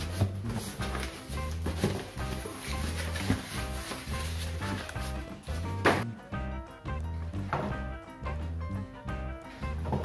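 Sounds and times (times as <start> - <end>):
music with bass line: 0.0 - 10.0.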